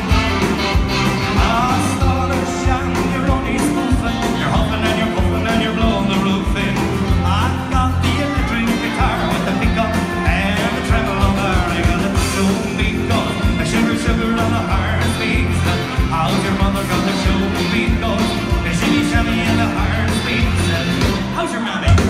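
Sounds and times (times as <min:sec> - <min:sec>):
bass guitar: 0:00.0 - 0:22.0
drums with steady beat: 0:00.0 - 0:22.0
electric guitar: 0:00.0 - 0:22.0
male singer: 0:00.0 - 0:22.0.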